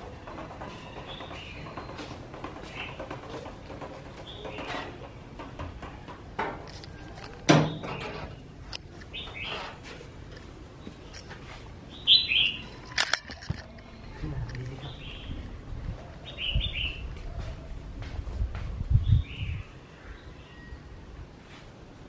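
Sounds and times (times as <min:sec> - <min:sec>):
birds chirping: 0:00.0 - 0:17.8, 0:18.9 - 0:21.6.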